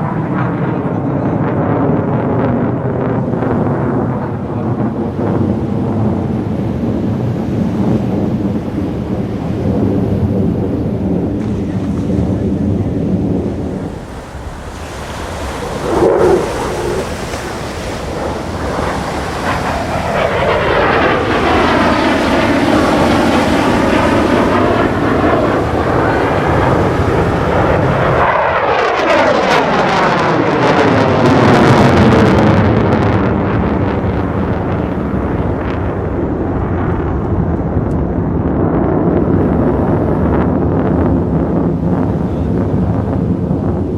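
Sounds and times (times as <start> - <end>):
jet roar flying past: 0.0 - 43.9
wind buffeting microphone: 0.0 - 43.9.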